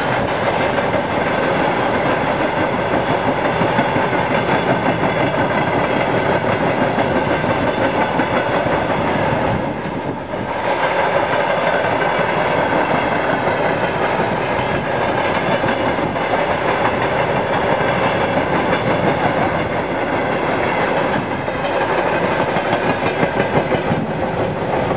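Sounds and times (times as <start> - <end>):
train wheels clattering on rails: 0.0 - 24.9.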